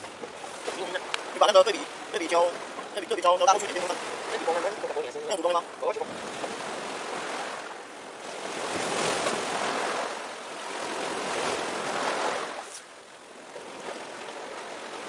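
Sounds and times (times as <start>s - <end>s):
small sea waves washing in: 0.0s - 15.0s.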